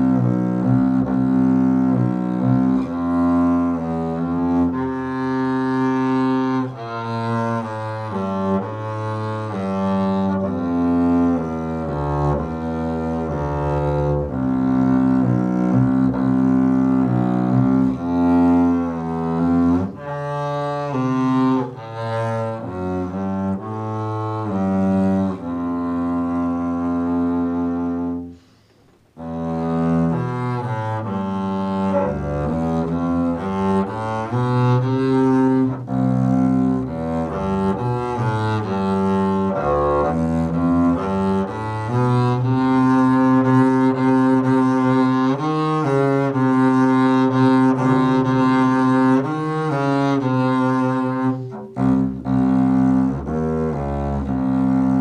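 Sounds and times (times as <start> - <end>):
bowed double bass: 0.0 - 55.0.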